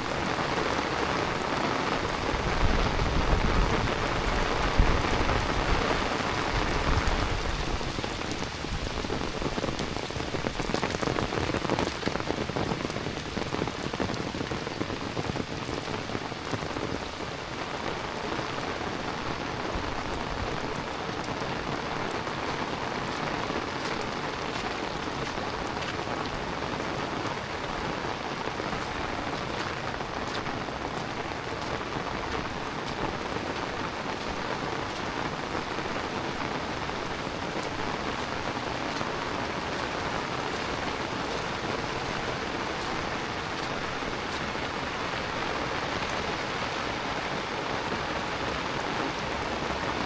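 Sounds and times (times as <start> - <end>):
heavy rain hissing: 0.0 - 50.0
raindrops ticking on hard surfaces: 0.0 - 50.0.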